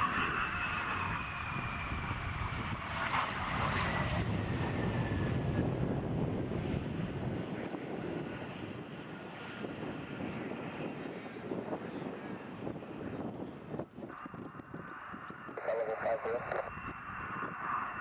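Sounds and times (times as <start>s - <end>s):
jet engine whine: 0.0s - 18.0s
low jet rumble: 0.0s - 18.0s.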